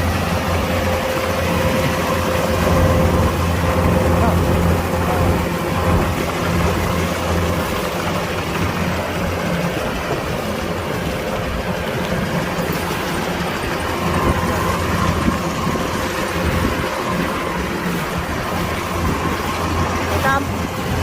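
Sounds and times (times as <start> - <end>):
combine harvester engine hum: 0.0 - 21.0
high whine: 0.0 - 21.0.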